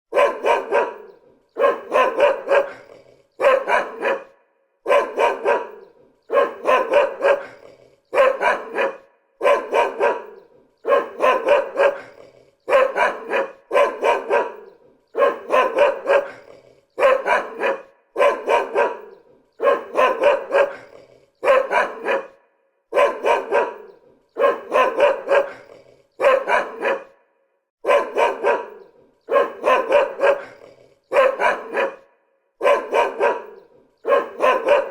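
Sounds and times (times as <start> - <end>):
dog barking: 0.1 - 34.9.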